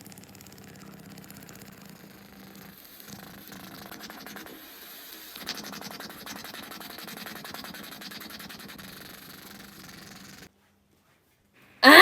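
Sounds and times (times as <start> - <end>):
squeeze bottle sputtering: 0.0 - 10.5.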